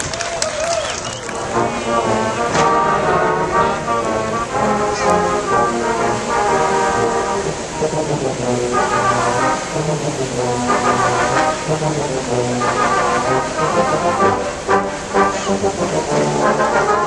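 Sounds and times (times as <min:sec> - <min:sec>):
brass band playing: 0:01.2 - 0:17.0.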